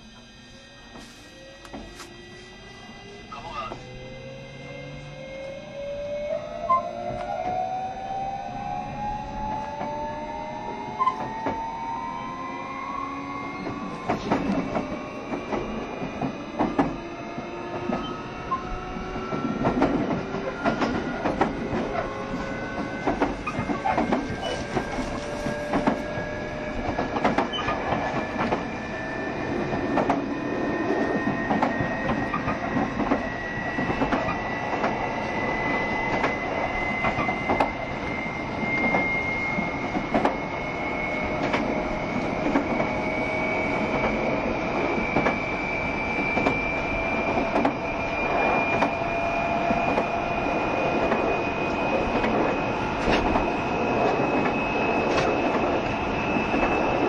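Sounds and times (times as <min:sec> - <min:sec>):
electric train motor whine: 0:00.0 - 0:57.0
train rumble: 0:00.0 - 0:57.0.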